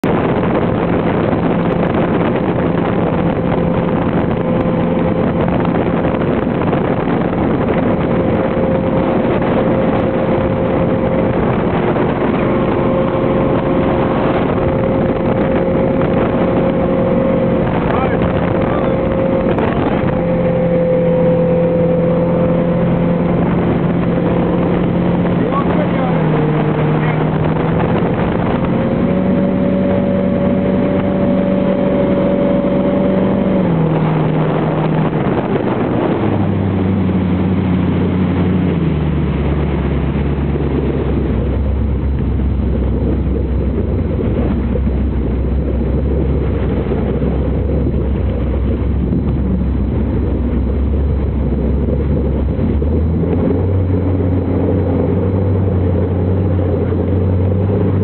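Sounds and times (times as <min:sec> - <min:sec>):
jet boat engine running: 0:00.0 - 0:58.0.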